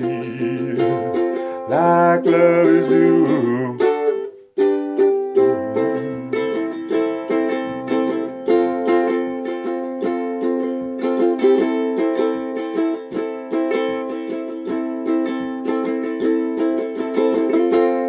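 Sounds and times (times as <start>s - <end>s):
solo ukulele playing: 0.0s - 18.0s.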